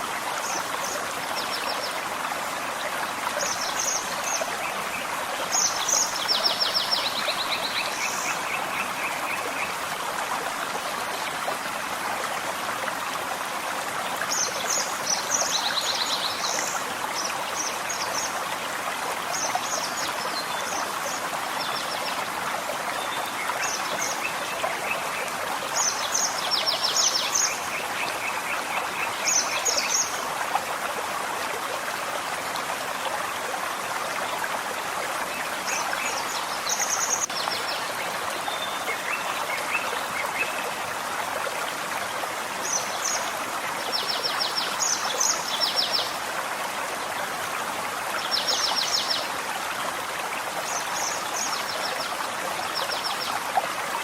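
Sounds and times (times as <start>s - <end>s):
forest stream running: 0.0s - 54.0s.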